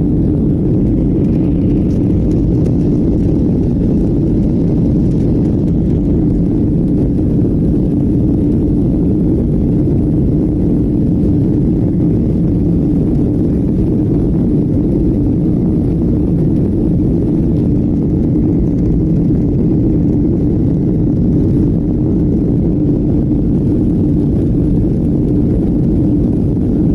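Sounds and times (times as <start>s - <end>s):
airplane cabin engine roar: 0.0s - 26.9s.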